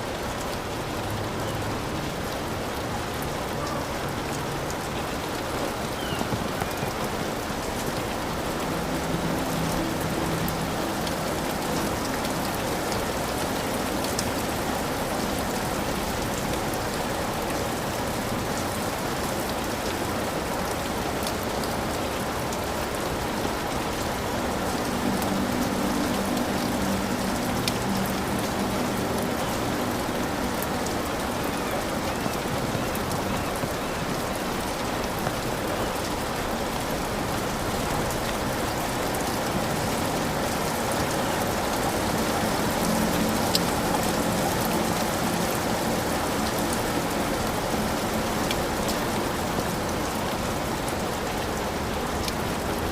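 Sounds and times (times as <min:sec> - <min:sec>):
heavy rain on a roof: 0:00.0 - 0:52.9
raindrops ticking: 0:00.0 - 0:52.9.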